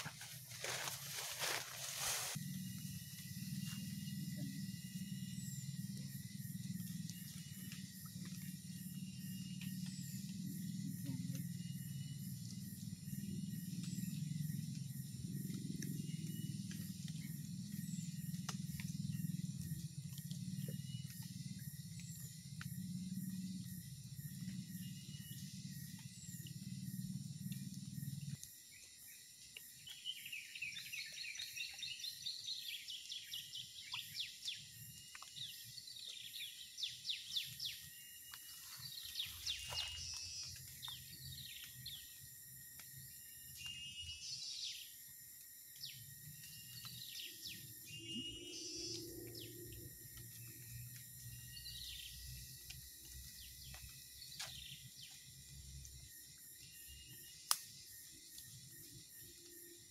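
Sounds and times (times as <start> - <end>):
high insect hiss: 0.0 - 59.9.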